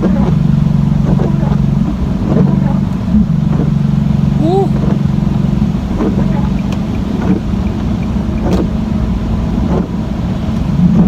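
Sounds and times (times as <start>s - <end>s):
exhaust pops: 0.0s - 4.1s, 4.7s - 11.0s
loud car engine running: 0.0s - 11.0s.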